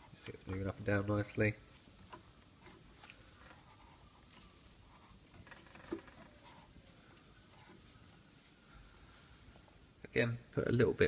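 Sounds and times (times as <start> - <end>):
soft handling rustles: 0.0 - 9.9.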